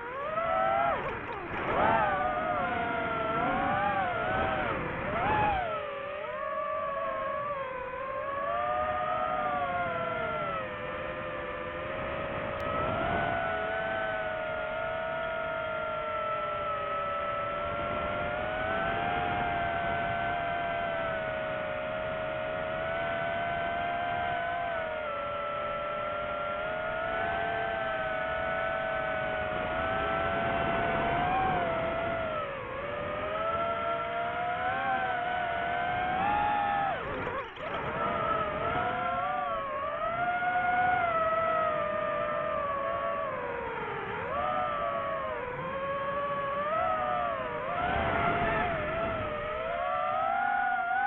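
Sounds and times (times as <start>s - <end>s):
drone motors and propellers whining: 0.0s - 51.0s.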